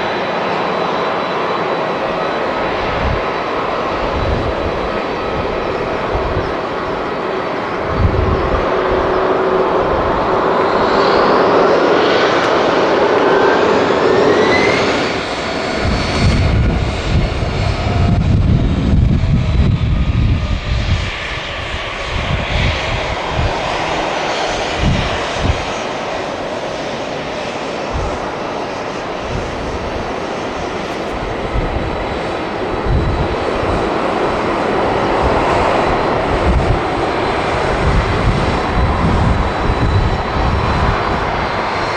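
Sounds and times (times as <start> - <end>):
jet engines roaring: 0.0 - 41.9
jet engines whining: 0.0 - 41.9.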